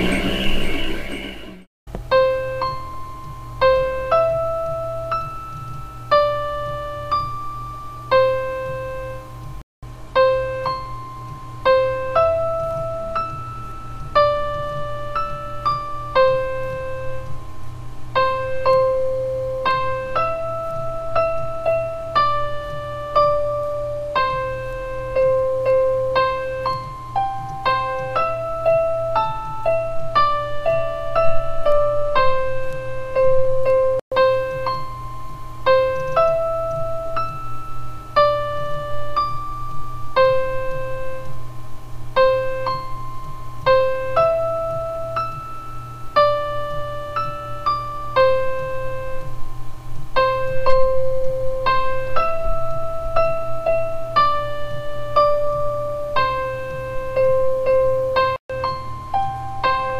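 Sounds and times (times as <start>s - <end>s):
electric piano melody: 0.0s - 59.9s
steady low hum: 0.0s - 59.9s.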